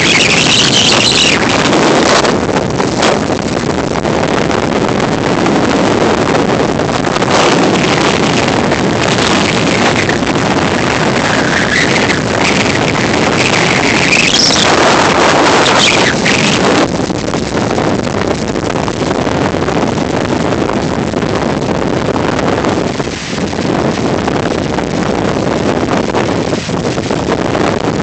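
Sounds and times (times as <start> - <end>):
wind buffeting microphone: 0.0 - 28.0
wind whistling: 0.0 - 28.0.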